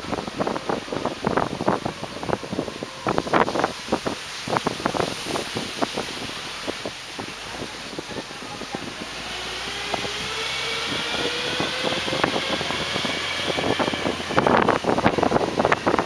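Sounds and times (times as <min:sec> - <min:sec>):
vehicle engine whine: 0:00.0 - 0:16.0
wind buffeting microphone: 0:00.0 - 0:16.0.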